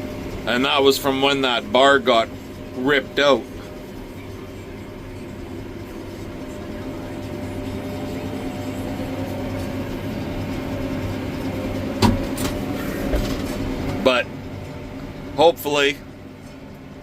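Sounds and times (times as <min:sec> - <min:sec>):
tractor and baler humming: 0:00.0 - 0:17.0.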